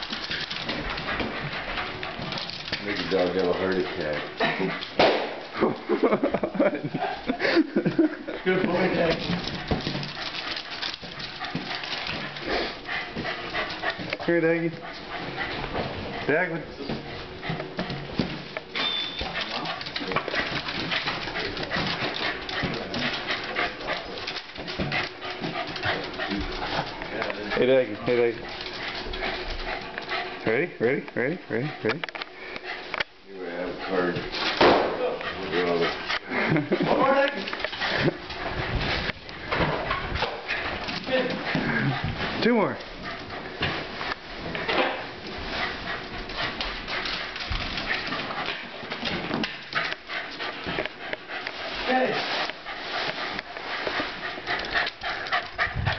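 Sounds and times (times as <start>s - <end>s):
paws scuffing on tile floor: 0.0s - 30.4s, 31.7s - 55.9s
dog panting rapidly: 0.0s - 55.9s.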